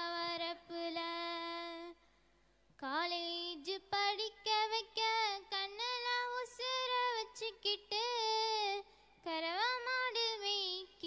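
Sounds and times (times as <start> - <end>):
girl singing unaccompanied: 0.0 - 2.0, 2.8 - 11.0.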